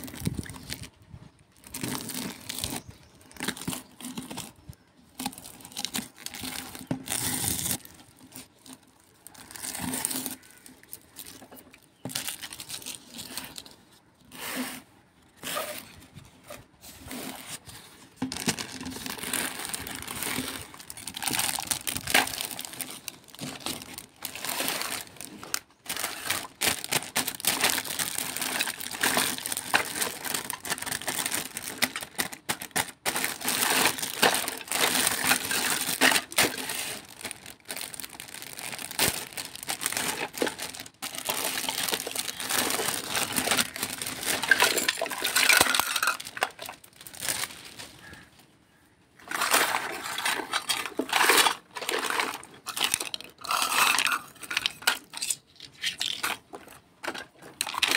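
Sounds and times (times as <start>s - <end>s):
plastic wrapping crinkling: 0.0s - 14.4s, 15.3s - 48.4s, 49.2s - 57.9s.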